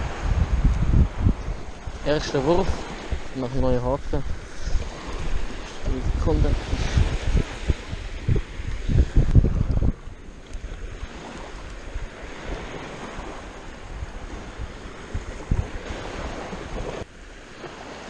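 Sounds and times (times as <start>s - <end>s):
surf washing on sandy beach: 0.0s - 18.0s
wind buffeting microphone: 0.0s - 18.0s.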